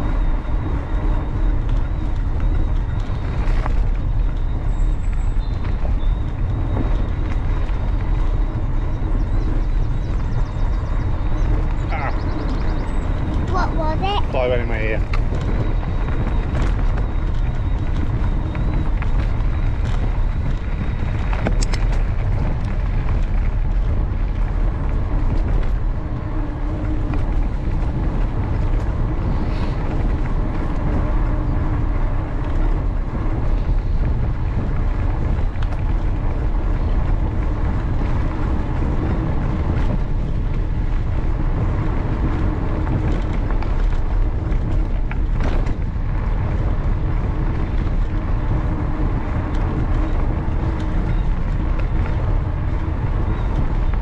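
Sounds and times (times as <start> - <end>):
bike tyre rumble: 0.0 - 54.0
wind buffeting microphone: 0.0 - 54.0.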